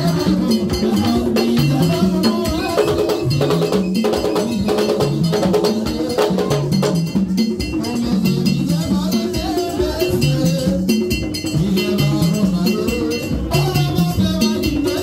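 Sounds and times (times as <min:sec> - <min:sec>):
hand drums: 0:00.0 - 0:15.0.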